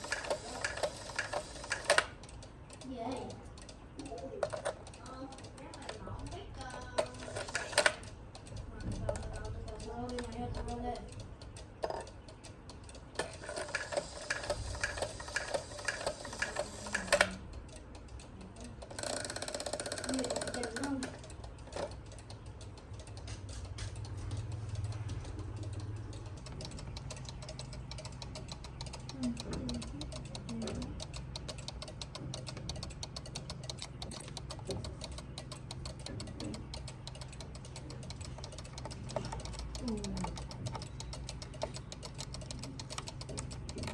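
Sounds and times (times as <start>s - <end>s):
loud clock click: 0.0s - 6.0s, 6.6s - 43.9s
clock ticking: 0.0s - 43.9s.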